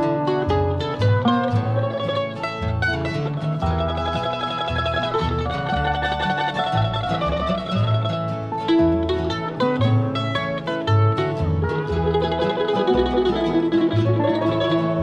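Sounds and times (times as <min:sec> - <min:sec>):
bass line: 0:00.0 - 0:15.0
plucked-string lead: 0:00.0 - 0:15.0
strummed guitar: 0:00.0 - 0:15.0.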